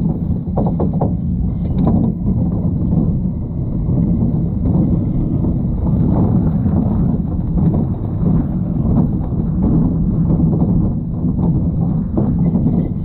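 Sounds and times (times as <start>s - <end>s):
roller coaster wheels rumbling: 0.0s - 13.0s
wind buffeting microphone: 0.0s - 13.0s.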